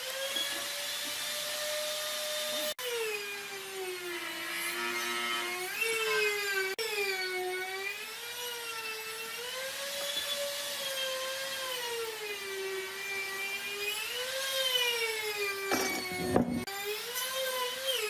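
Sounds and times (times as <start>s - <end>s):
power tool motor whine: 0.0s - 18.0s.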